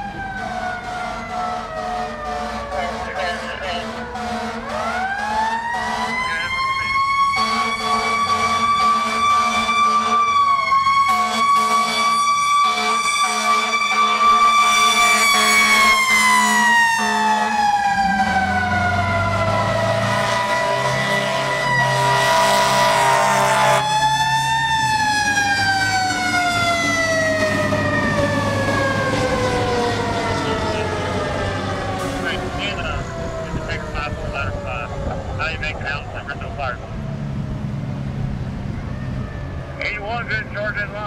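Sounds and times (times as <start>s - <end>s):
fire truck siren wailing: 0.0s - 41.0s
truck engine rumbling: 0.0s - 41.0s.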